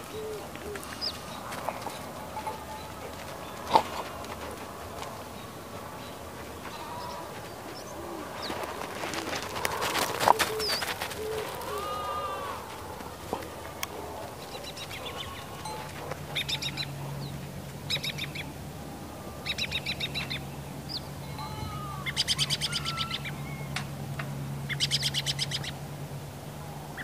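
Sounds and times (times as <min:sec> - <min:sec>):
small birds chirping trills: 0:00.0 - 0:23.8, 0:24.6 - 0:25.8
steady low hum: 0:00.0 - 0:27.0.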